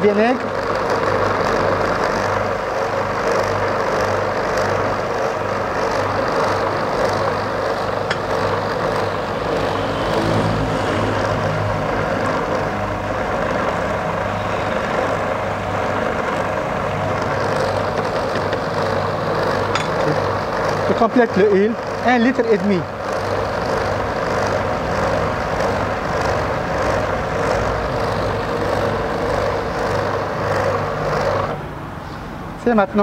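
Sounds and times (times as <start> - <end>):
food processor motor running: 0.0 - 31.8.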